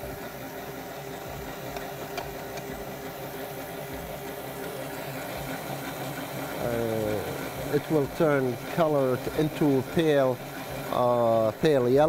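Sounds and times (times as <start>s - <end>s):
stand mixer motor whipping: 0.0s - 12.0s.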